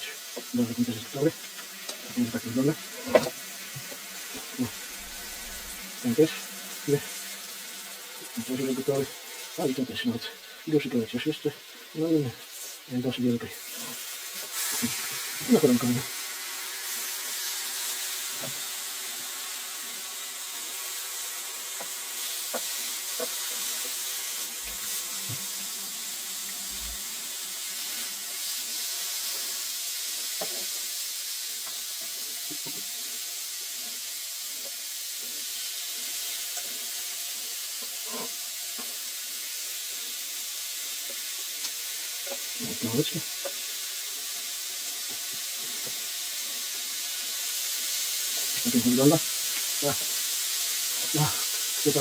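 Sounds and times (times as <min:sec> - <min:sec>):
chicken frying in hot oil: 0:00.0 - 0:52.0.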